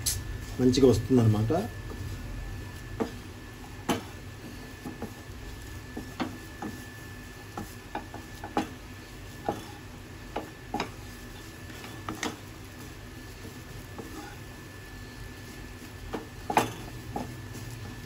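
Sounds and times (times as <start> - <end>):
wooden spatula scraping a pan: 0.4 - 18.0.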